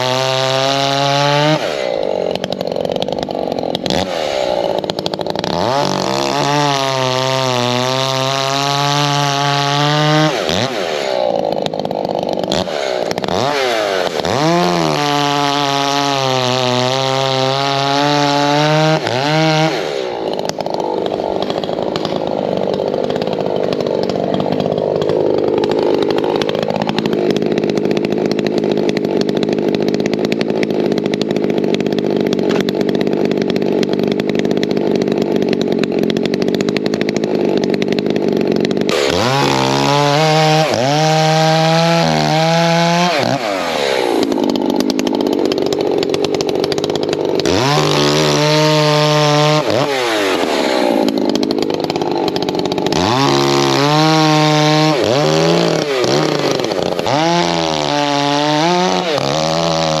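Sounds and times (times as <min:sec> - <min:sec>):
chainsaw cutting wood: 0:00.0 - 1:00.0
chainsaw engine revving: 0:00.0 - 1:00.0.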